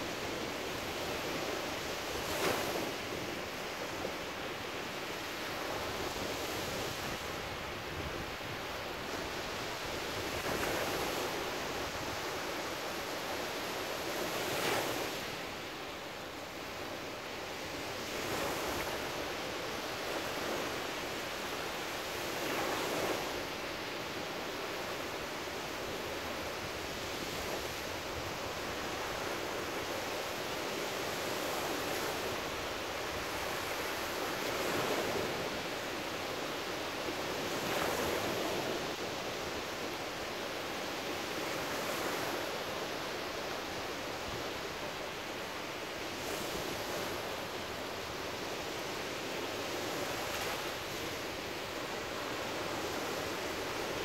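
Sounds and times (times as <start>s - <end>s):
waves breaking on sandy beach: 0.0s - 54.0s.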